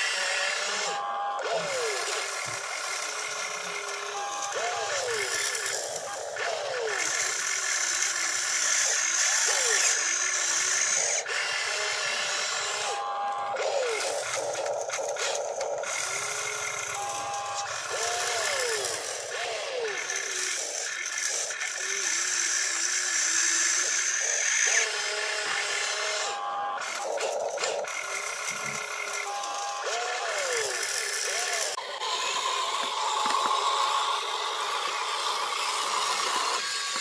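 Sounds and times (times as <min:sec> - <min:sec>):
small electric motors whirring: 0:00.0 - 0:37.0.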